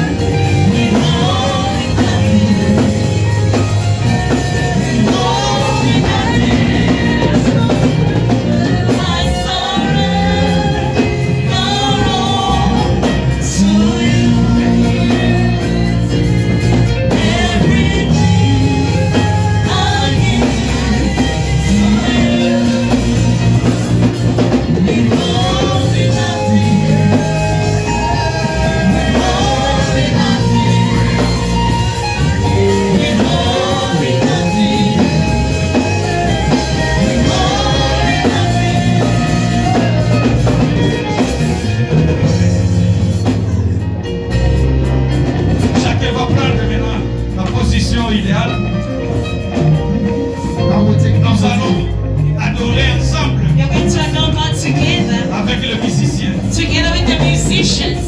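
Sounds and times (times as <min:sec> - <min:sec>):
bass line: 0:00.0 - 0:58.0
voices singing over a band: 0:00.0 - 0:58.0.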